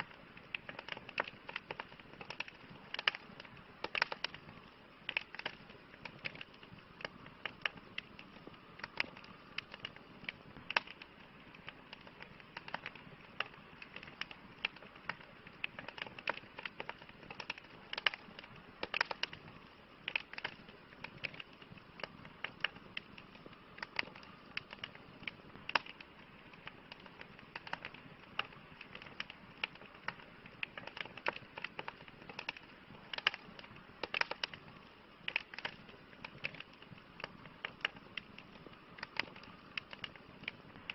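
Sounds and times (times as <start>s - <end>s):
campfire hissing: 0.0s - 40.9s
wood crackling and popping: 0.0s - 40.9s.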